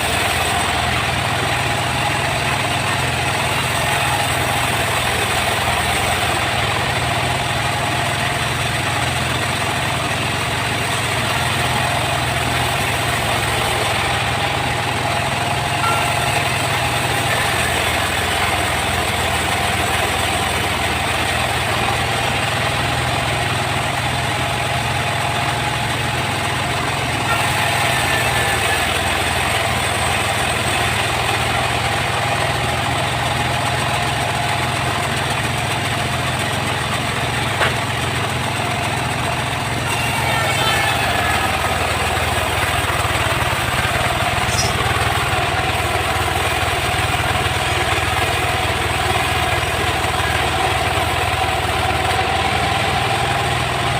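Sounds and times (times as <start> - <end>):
sawmill machinery droning: 0.0 - 53.9.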